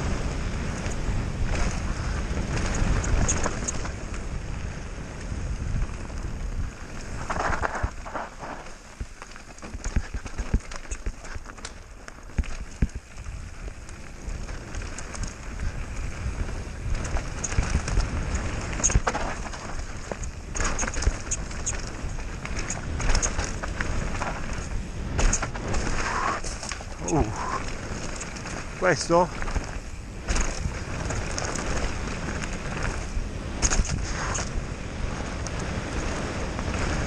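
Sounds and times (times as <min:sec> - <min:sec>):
bike chain and frame rattling: 0:00.0 - 0:37.0
bike tyres on dirt and leaves: 0:00.0 - 0:37.0
wind buffeting microphone: 0:00.0 - 0:37.0.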